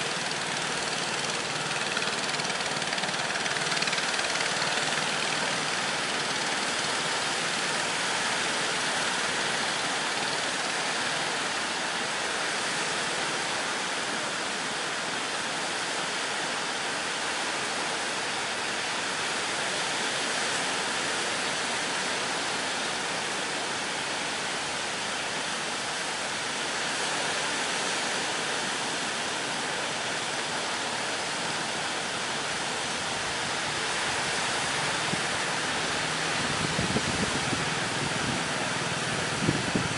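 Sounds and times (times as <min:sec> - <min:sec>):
sea waves breaking: 0:00.0 - 0:15.2, 0:16.1 - 0:39.9.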